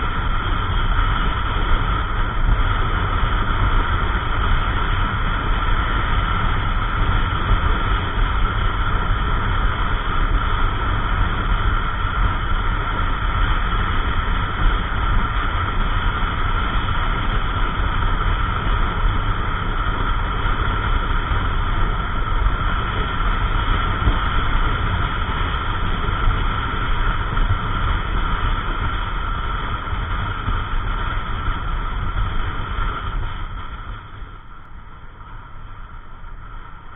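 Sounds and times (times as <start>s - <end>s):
road noise: 0.0s - 36.9s
wind rushing over microphone: 0.0s - 36.9s.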